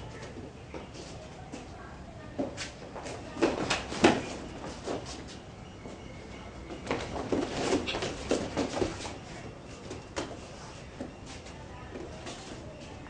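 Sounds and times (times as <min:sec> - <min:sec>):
bare feet shuffling on mats: 0:00.1 - 0:13.0.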